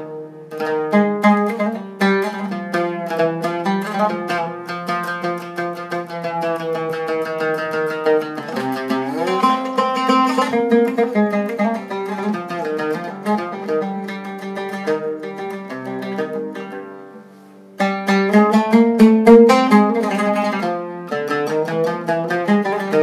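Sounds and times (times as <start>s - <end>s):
oud plucked solo: 0.0s - 23.0s.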